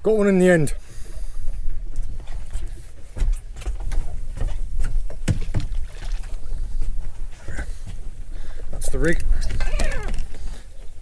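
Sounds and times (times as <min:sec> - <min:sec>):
boat low rumble: 0:00.0 - 0:11.0.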